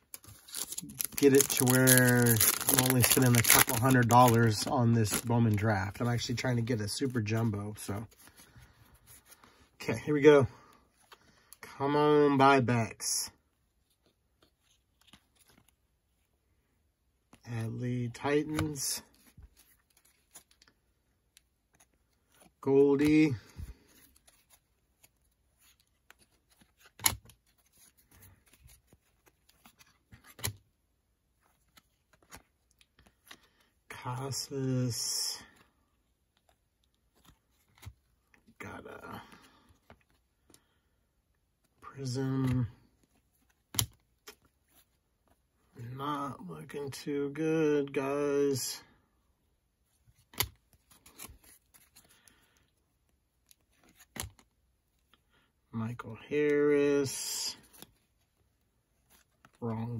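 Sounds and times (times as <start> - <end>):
trading cards rustling and clicking: 0.0 - 9.7, 13.8 - 16.2, 17.2 - 45.6, 49.9 - 55.5, 56.5 - 59.9.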